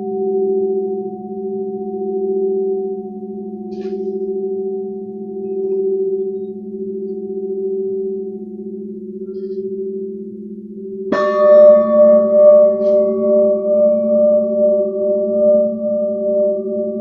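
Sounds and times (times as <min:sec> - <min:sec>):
metallic ringing drone: 0:00.0 - 0:17.0.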